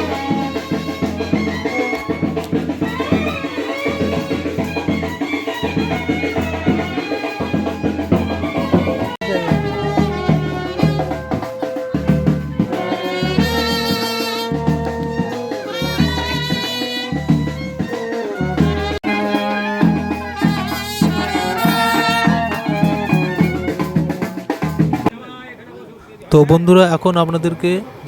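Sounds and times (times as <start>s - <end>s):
music with steady drum beat: 0.0s - 25.2s.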